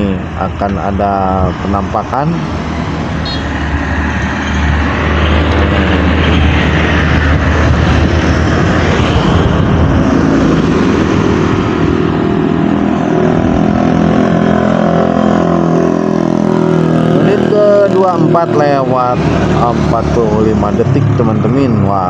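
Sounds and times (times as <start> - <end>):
road traffic passing: 0.0 - 22.0
steady engine note: 0.0 - 22.0.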